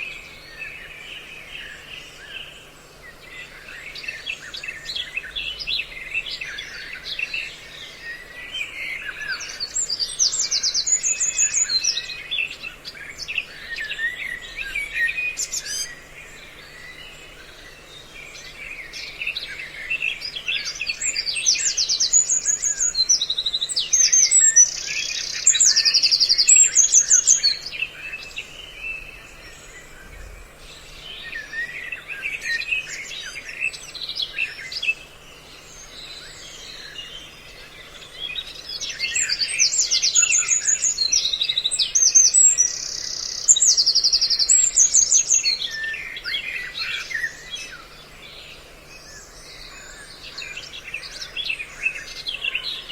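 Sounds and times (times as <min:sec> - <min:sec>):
songbirds chirping and trilling: 0:00.0 - 0:52.9.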